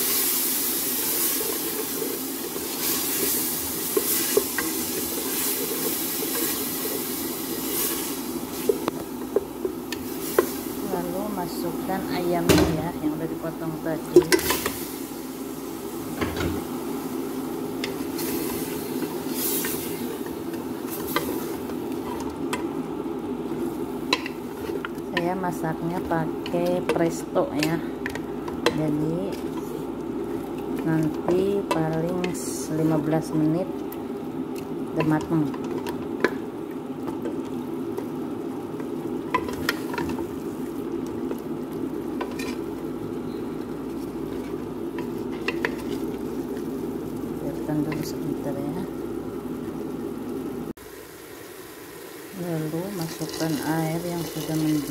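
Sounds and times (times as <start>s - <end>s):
chicken sizzling in a pot: 0.0s - 54.9s.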